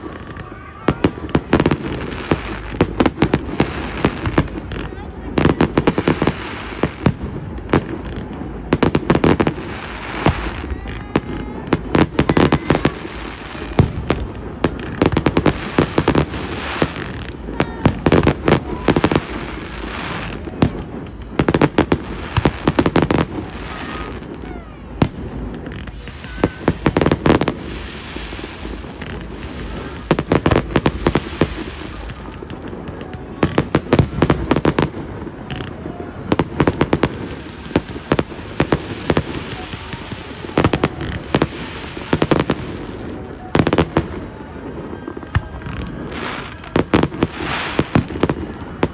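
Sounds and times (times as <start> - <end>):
background rumble: 0.0 - 48.9
fireworks bangs and crackles: 0.0 - 48.9.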